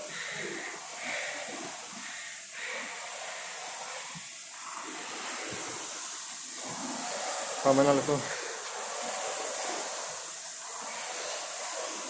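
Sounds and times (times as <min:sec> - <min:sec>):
rowing machine flywheel whirring: 0:00.0 - 0:12.0.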